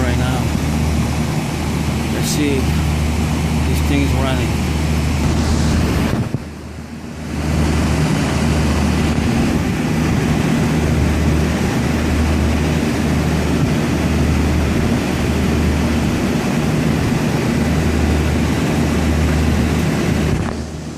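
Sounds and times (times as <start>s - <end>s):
air conditioner unit humming: 0.0s - 20.9s.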